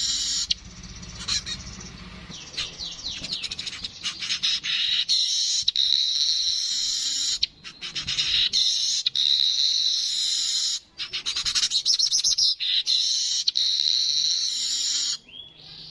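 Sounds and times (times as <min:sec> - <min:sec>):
weaver bird singing: 0:00.0 - 0:15.9.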